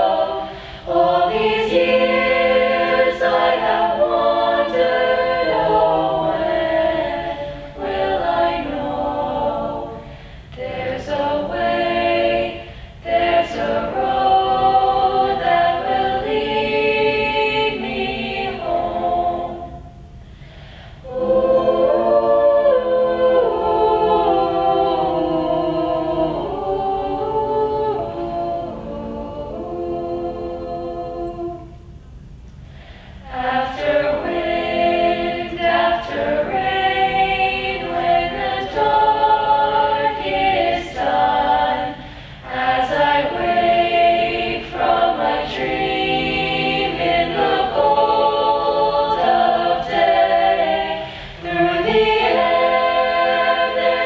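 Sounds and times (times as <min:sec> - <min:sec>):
choir singing in harmony: 0:00.0 - 0:32.0, 0:32.8 - 0:54.0.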